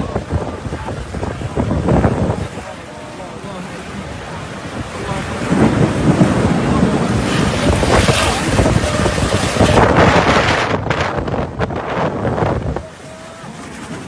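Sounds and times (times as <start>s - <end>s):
heavy rain: 0.0s - 14.0s
wind buffeting microphone: 0.0s - 14.0s.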